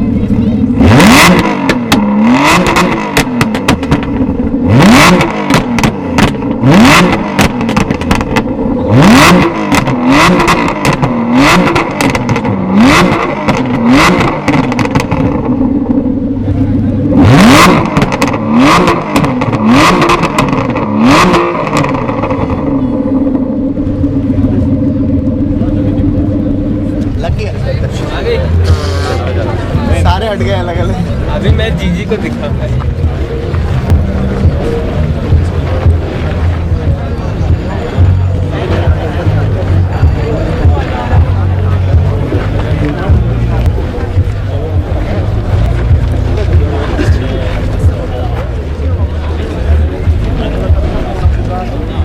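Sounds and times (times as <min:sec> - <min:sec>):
car engine revving: 0:00.0 - 0:52.0
exhaust crackles and pops: 0:00.1 - 0:52.0.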